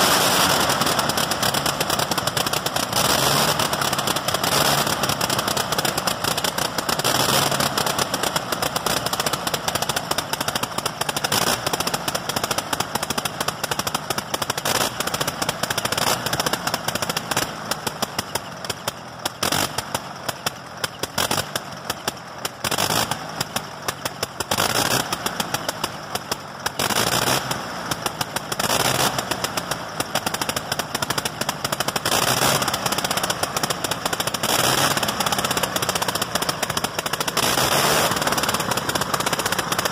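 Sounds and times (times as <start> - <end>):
rotary aircraft engine running: 0.0 - 39.9.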